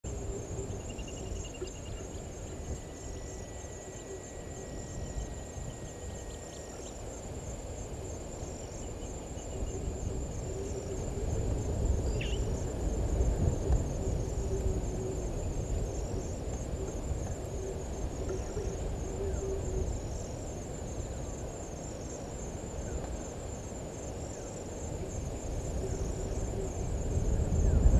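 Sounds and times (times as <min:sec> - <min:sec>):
insects trilling: 0:00.0 - 0:27.9
low rumbling background noise: 0:00.1 - 0:27.9.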